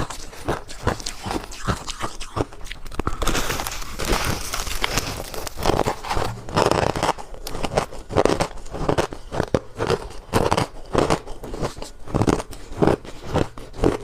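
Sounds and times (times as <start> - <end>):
ice being crunched and chewed: 0.0 - 14.0.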